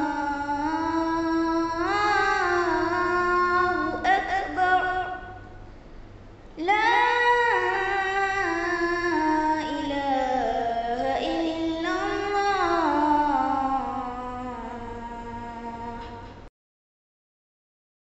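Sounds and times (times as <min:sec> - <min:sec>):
boy chanting call to prayer: 0:00.0 - 0:05.7, 0:06.6 - 0:16.4.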